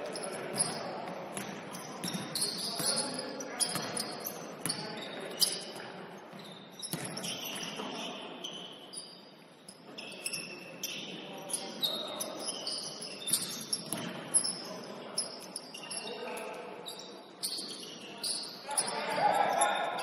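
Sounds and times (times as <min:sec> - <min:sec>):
sneakers squeaking on floor: 0:00.0 - 0:20.0.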